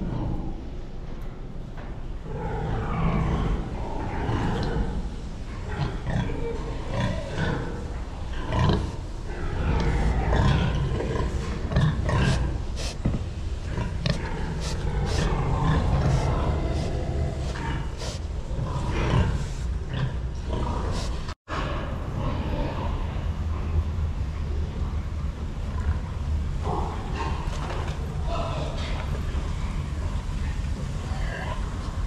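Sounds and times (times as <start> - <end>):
steady low rumble: 0.0 - 32.0
pigs grunting: 2.2 - 23.8, 25.6 - 32.0.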